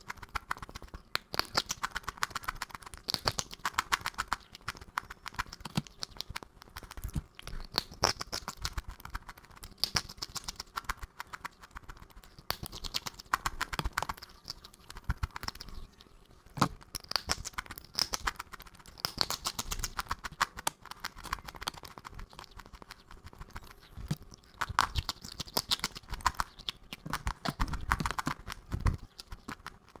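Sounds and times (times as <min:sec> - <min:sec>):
crunchy chewing: 0:00.0 - 0:30.0.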